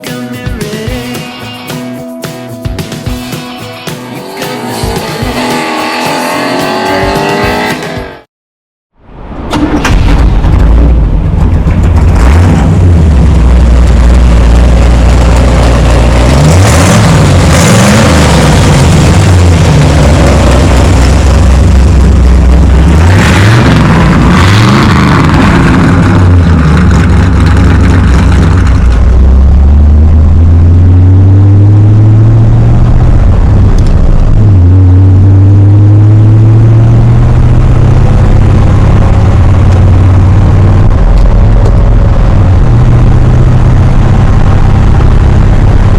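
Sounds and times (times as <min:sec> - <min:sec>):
car engine revving: 0:04.0 - 0:08.3, 0:09.2 - 0:45.9.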